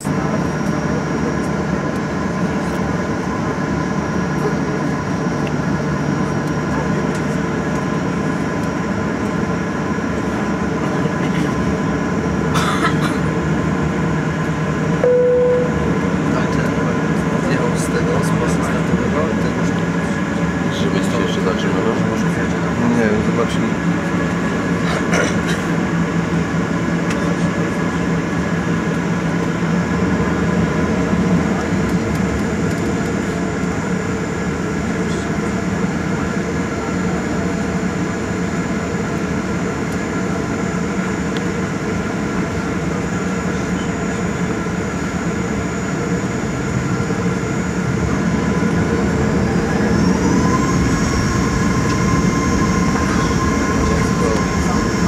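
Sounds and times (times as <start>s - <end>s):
jet engines from inside cabin: 0.0s - 55.0s.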